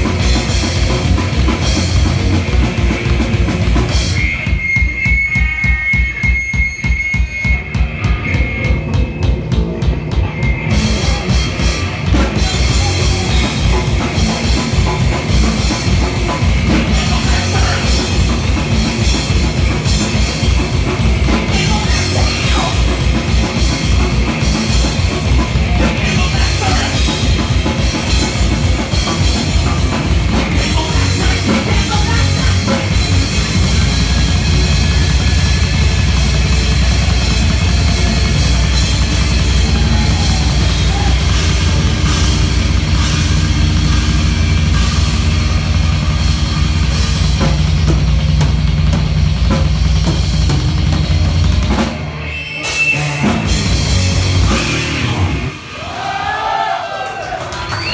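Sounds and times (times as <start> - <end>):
heavy metal band playing: 0.0 - 57.9
rapid drumming: 0.0 - 57.9.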